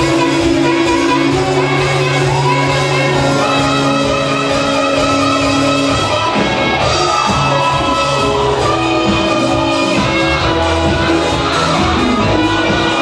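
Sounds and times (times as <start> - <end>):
loud live band music: 0.0 - 13.0
person singing or shouting: 0.0 - 13.0.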